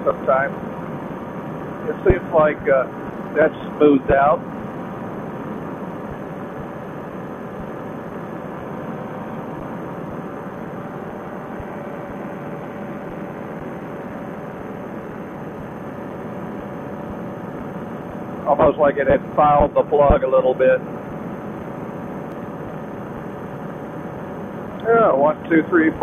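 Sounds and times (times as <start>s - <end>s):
paramotor engine and propeller: 0.0s - 26.0s.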